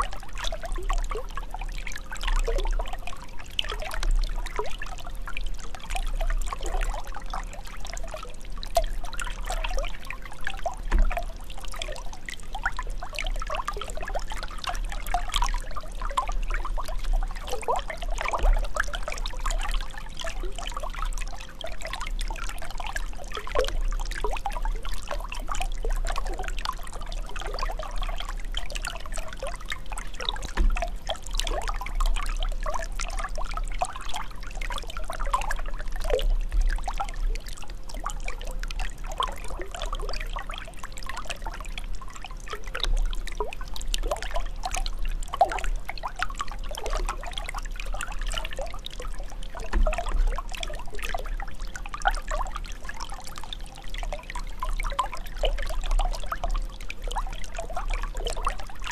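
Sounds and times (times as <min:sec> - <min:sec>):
water trickling and bubbling: 0:00.0 - 0:58.9.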